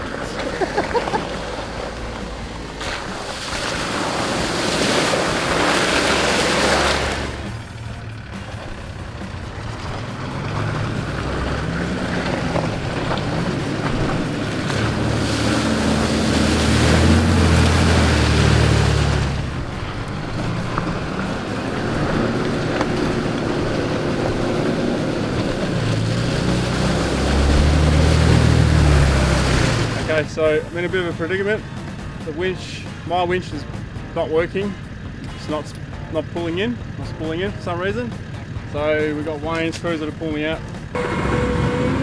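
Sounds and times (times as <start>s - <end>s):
water splashing and sloshing: 0.0s - 36.3s
off-road engines revving: 0.0s - 42.0s.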